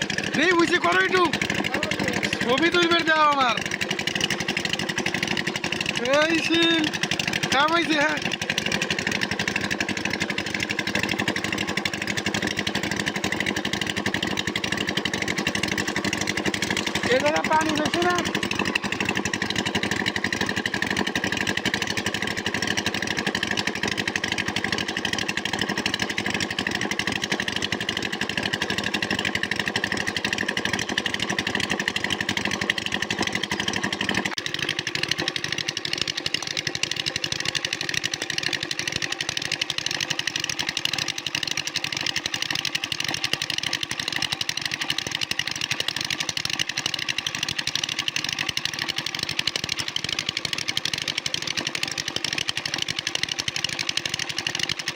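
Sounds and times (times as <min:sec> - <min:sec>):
small engine running: 0:00.0 - 0:54.9.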